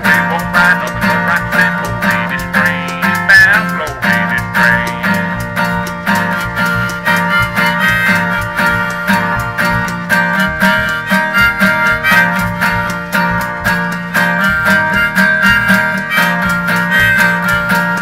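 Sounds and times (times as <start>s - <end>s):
acoustic guitar strumming: 0.0s - 18.0s
harmonica melody: 0.0s - 18.0s.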